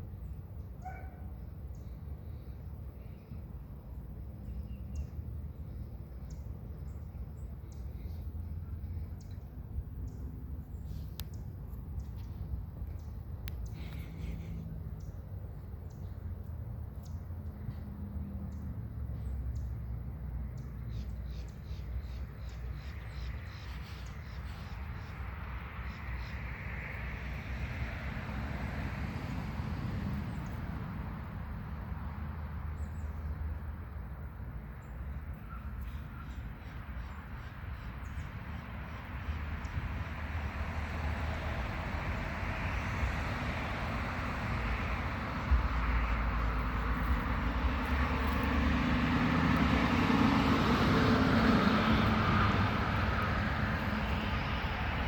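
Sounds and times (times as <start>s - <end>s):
engine rumble passing: 5.0s - 21.4s, 22.4s - 55.0s.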